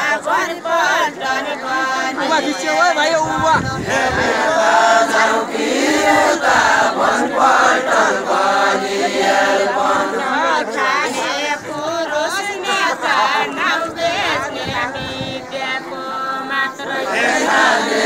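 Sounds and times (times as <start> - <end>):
group singing chant-like melody: 0.0 - 18.0.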